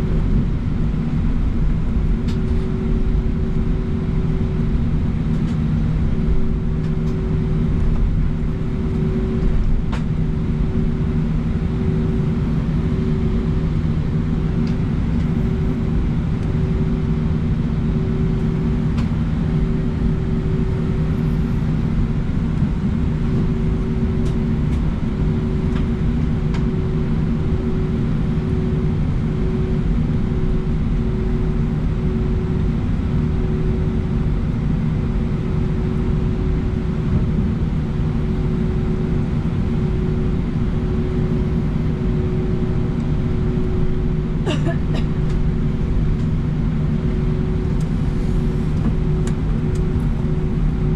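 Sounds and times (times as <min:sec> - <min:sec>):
low jet engine rumble: 0:00.0 - 0:50.9
wavering droning hum: 0:00.0 - 0:50.9.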